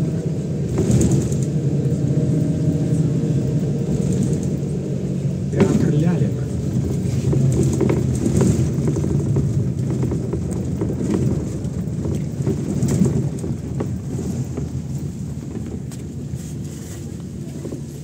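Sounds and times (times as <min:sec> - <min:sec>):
bus body rattles and clicks: 0:00.0 - 0:18.0
diesel bus engine hum: 0:00.0 - 0:18.0
road rumble: 0:00.0 - 0:18.0.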